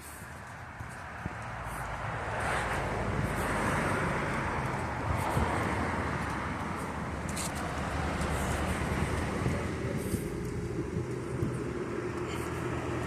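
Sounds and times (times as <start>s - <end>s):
car passing by: 0.0s - 13.0s.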